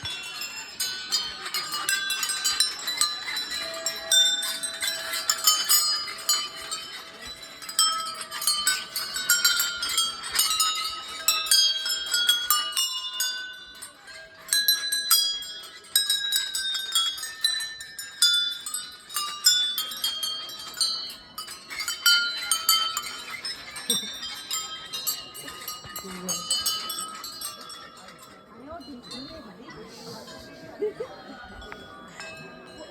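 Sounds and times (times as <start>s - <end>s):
small metal bells jingling: 0.0s - 32.9s.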